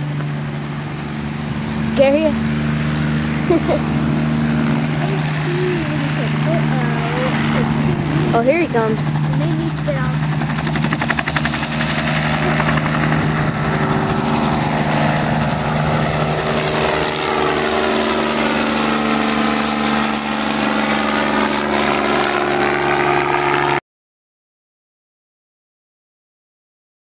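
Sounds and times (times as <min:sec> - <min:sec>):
helicopter engine hum: 0:00.0 - 0:23.8
helicopter rotor beating: 0:00.0 - 0:23.8.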